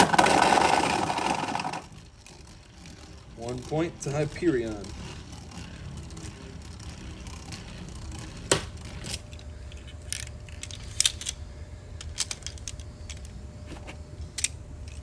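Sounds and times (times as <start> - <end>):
spinning tops clacking: 0.0 - 13.4
faint steady whine: 0.0 - 15.0.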